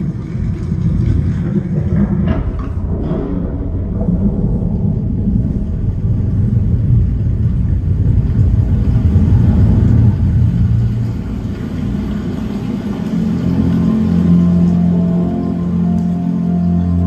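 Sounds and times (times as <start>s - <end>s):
deep subwoofer bass: 0.0s - 17.0s.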